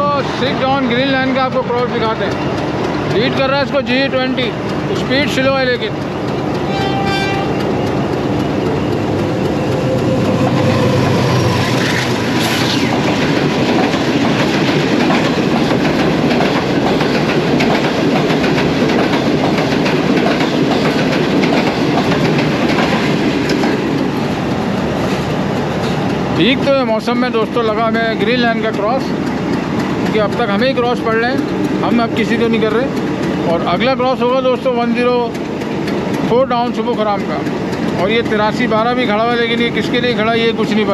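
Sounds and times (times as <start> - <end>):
train wheels clacking over rail joints: 0.0 - 40.9.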